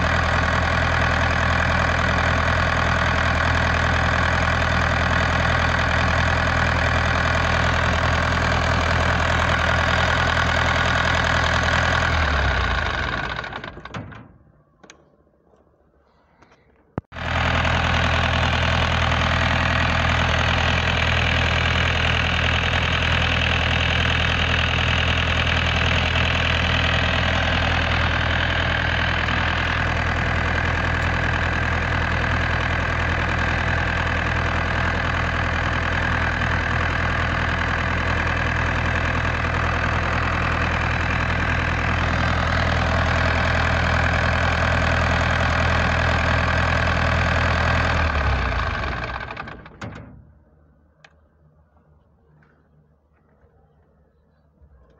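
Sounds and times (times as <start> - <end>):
diesel generator running: 0.0 - 15.0, 17.0 - 53.4.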